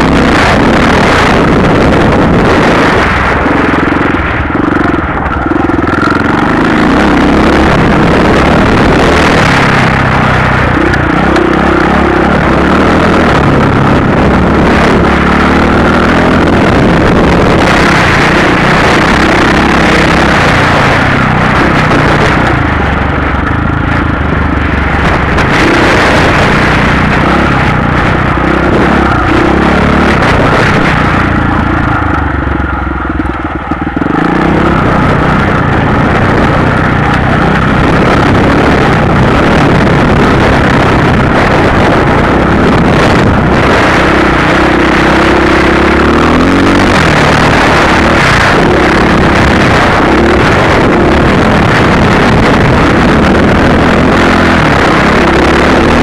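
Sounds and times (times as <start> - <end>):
motorcycle engine on dirt: 0.0 - 56.0.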